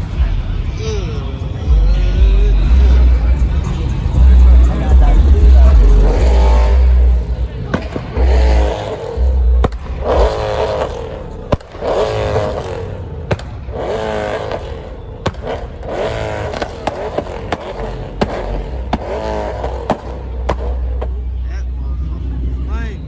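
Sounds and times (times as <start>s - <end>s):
car engines revving: 0.0s - 23.0s
sharp exhaust pops: 2.5s - 21.4s.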